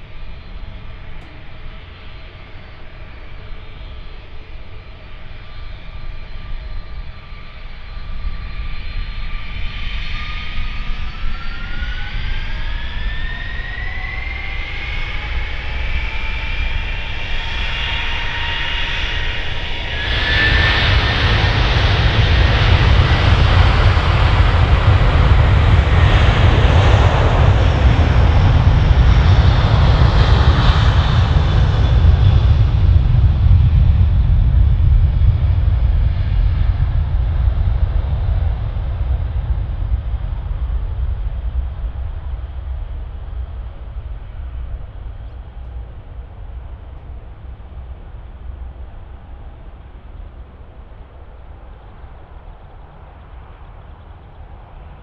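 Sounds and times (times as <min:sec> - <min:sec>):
deep jet engine rumble: 0:00.0 - 0:55.0
jet engines whining: 0:00.0 - 0:55.0.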